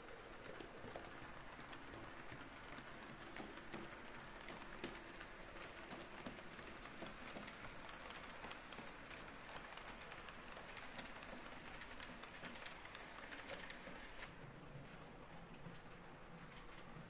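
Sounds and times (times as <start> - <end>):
model train wheels clicking: 0.0 - 14.4.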